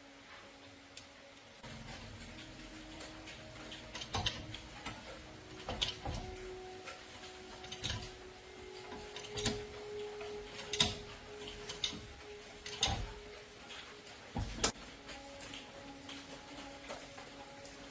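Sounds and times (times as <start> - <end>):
clicks and knocks of tools: 0.9 - 17.9.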